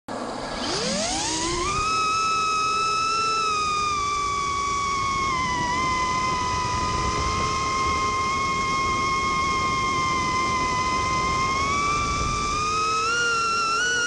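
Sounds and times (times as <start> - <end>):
quadcopter motors whining: 0.1 - 14.0.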